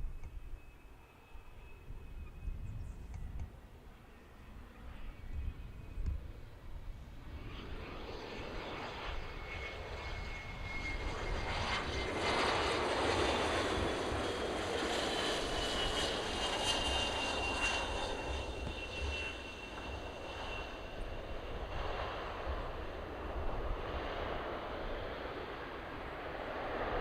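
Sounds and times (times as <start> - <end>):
aircraft engines passing by: 0.0 - 27.0.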